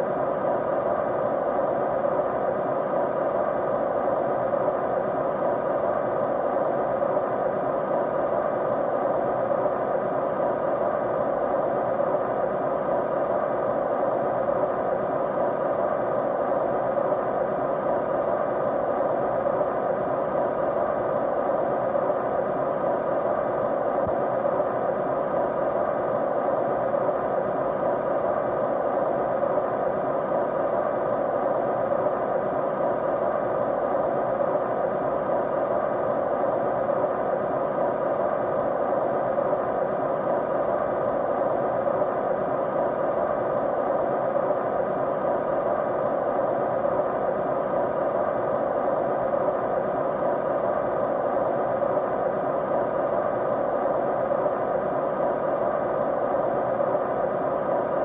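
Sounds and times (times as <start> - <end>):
white noise: 0.0 - 58.0.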